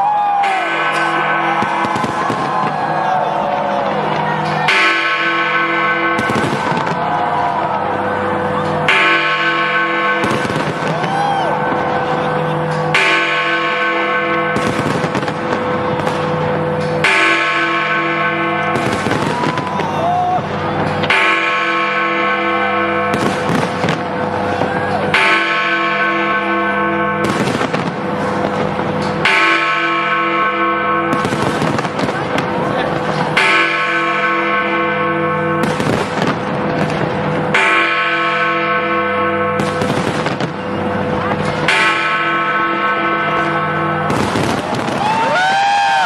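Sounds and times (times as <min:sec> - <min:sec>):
fireworks banging and crackling: 0:00.0 - 0:05.4, 0:06.0 - 0:08.0, 0:08.6 - 0:21.7, 0:23.1 - 0:25.7, 0:27.2 - 0:29.7, 0:31.1 - 0:34.6, 0:35.6 - 0:38.8, 0:39.6 - 0:42.2, 0:43.3 - 0:46.0
deep bell striking: 0:00.0 - 0:46.0.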